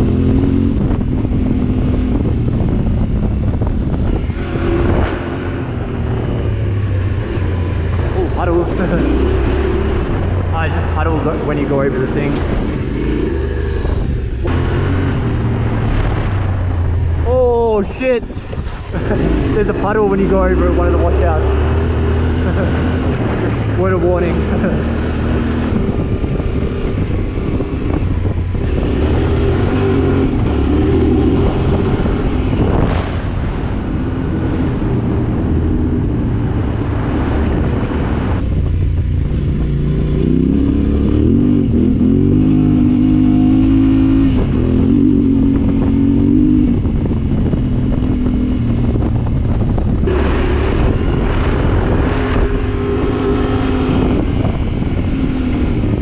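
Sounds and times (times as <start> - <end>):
motorcycle engine running: 0.0 - 56.0
road and wind noise: 0.0 - 56.0.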